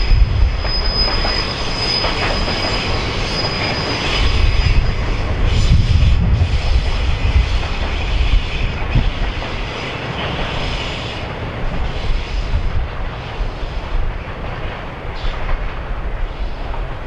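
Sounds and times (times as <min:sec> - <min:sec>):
hiss: 0:00.0 - 0:14.0
train wheels rumbling on rail: 0:00.0 - 0:17.0.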